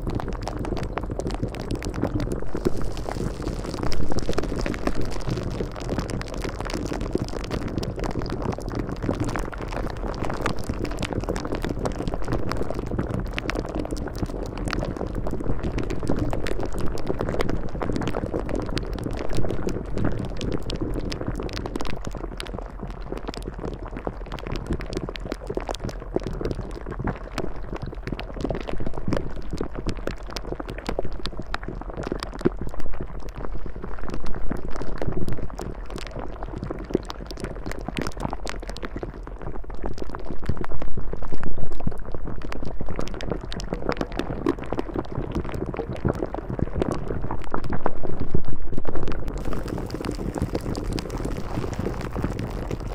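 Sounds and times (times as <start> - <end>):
liquid bubbling with pops: 0.0 - 52.9.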